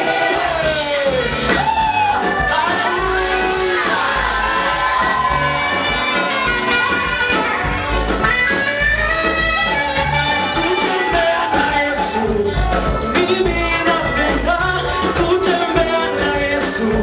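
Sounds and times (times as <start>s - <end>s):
group singing gospel: 0.0s - 7.8s, 10.3s - 17.0s
band with low bass beat: 0.0s - 17.0s.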